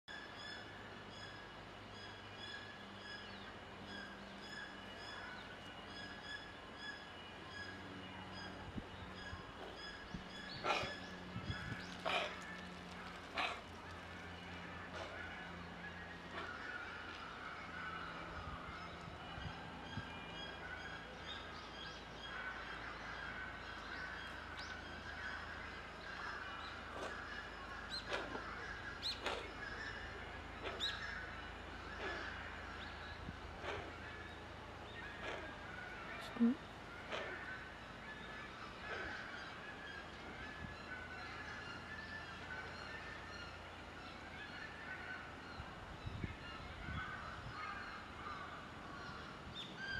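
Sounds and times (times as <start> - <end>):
steady low hum: 0.1 - 49.9
birds chirping: 0.5 - 49.9.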